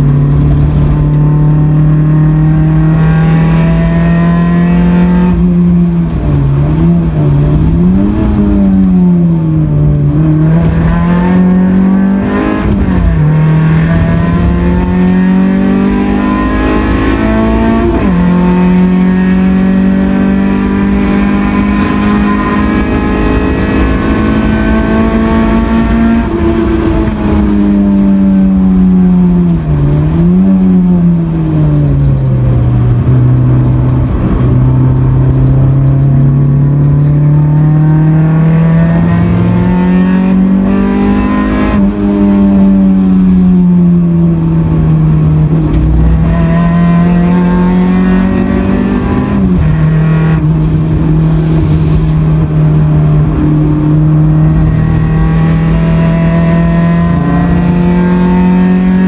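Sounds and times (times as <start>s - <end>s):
car engine revving high: 0.0s - 59.0s.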